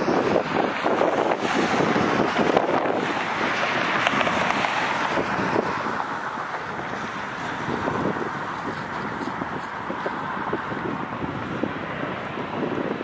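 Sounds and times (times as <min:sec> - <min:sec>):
jet engine noise: 0:00.0 - 0:13.0
wind noise on microphone: 0:00.0 - 0:13.0.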